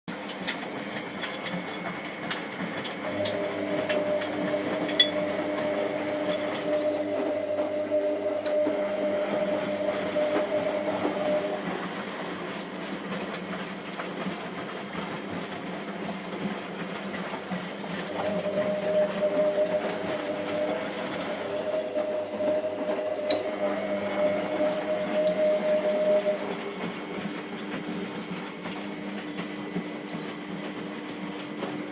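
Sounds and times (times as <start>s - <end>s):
washing machine drum churning: 0.1s - 31.9s
washing machine motor hum: 0.1s - 31.9s.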